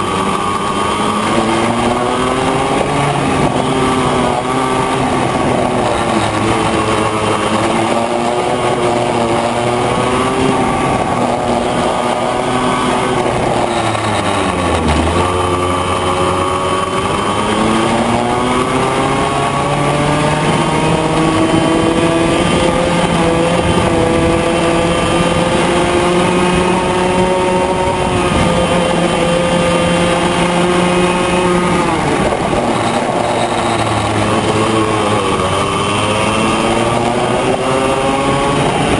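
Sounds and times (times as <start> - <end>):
kart engine revving: 0.0 - 38.9.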